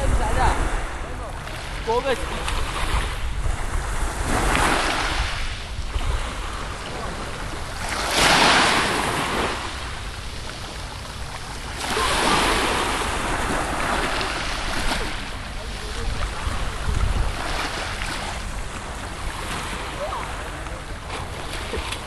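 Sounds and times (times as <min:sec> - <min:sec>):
sea waves washing in: 0:00.0 - 0:22.0
wind rumble on microphone: 0:00.0 - 0:22.0.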